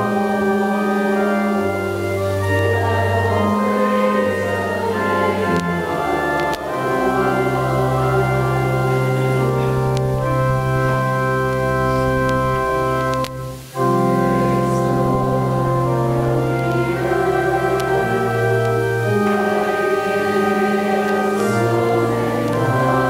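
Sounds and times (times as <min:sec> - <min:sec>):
church organ playing sustained chords: 0:00.0 - 0:23.0.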